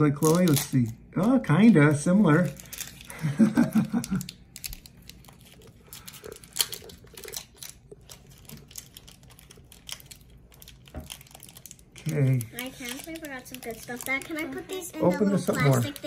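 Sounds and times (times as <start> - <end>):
foil wrapper crinkling: 0.2 - 16.0.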